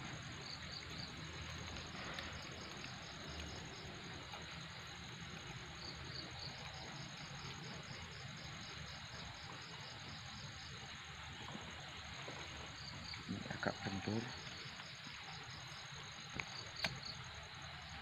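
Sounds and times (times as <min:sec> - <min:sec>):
high insect chirps: 0:00.0 - 0:18.0
insects trilling: 0:00.0 - 0:18.0.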